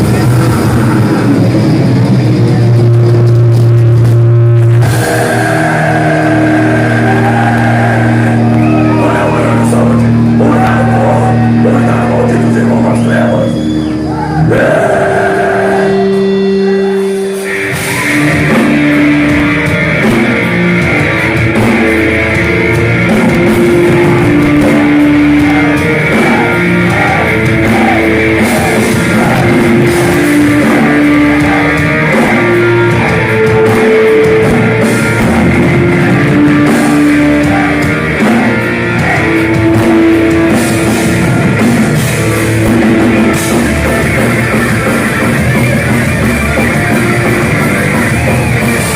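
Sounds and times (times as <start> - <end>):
heavy metal band playing: 0.0 - 48.9.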